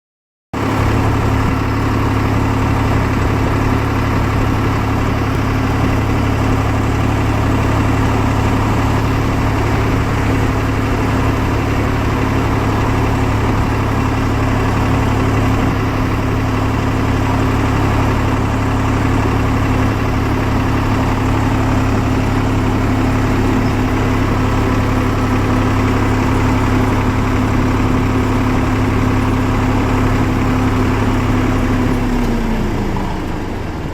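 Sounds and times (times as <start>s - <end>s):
tractor diesel engine running: 0.6s - 33.9s.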